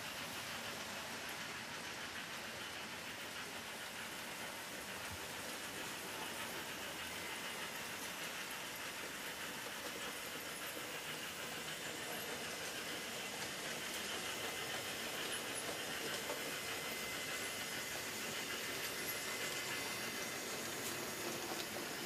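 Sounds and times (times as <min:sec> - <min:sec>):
model train motors whirring: 0:00.0 - 0:22.0
wheels rolling on track: 0:00.0 - 0:22.0.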